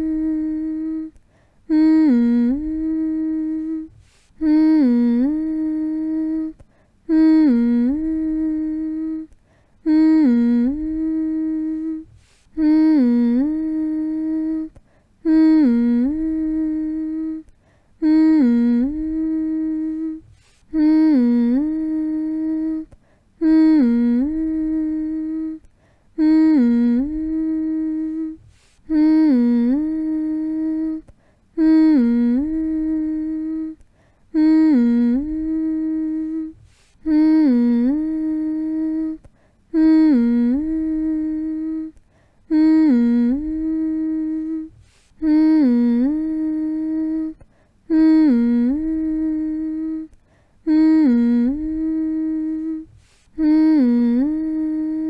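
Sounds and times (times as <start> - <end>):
person humming lullaby: 0.0 - 55.0.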